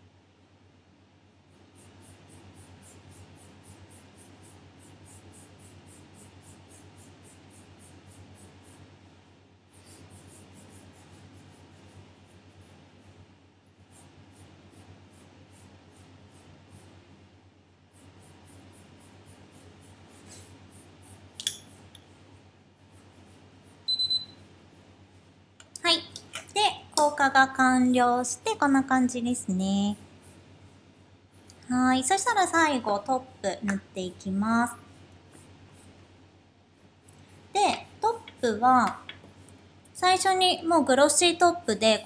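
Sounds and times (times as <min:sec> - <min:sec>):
low mains hum: 0:00.0 - 0:42.0.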